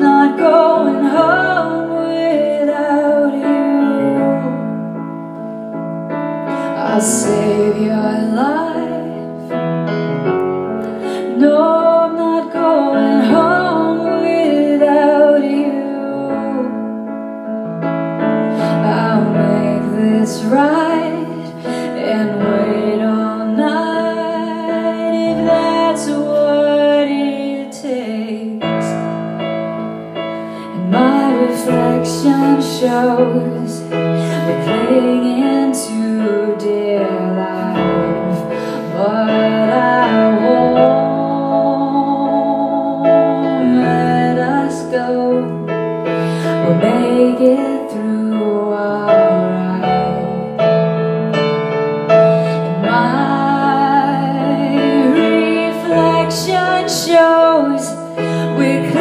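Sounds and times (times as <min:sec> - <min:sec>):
woman singing a ballad: 0:00.0 - 0:05.8, 0:06.4 - 0:17.6, 0:18.3 - 0:50.8, 0:52.1 - 0:59.0
keyboard piano chords: 0:00.0 - 0:59.0.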